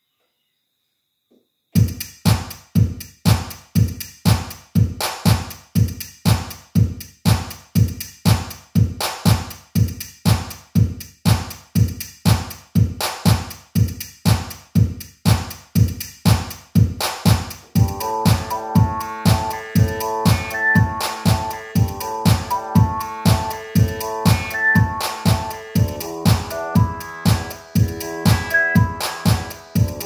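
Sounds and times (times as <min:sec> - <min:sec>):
drum machine disco beat: 0:01.8 - 0:30.0
heavy kick drum: 0:01.8 - 0:30.0.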